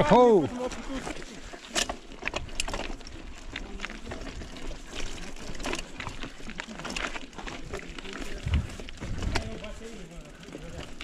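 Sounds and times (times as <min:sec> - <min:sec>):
bike clicks and rattles: 0:00.0 - 0:11.0.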